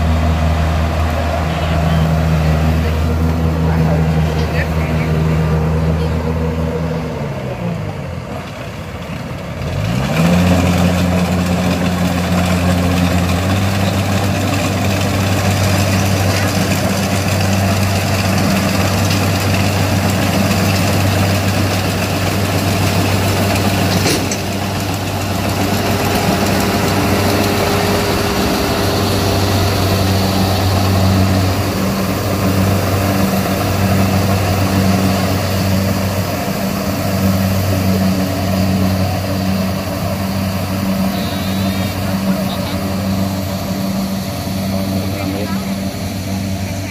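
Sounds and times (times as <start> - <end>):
combine harvester diesel engine: 0.0 - 46.9.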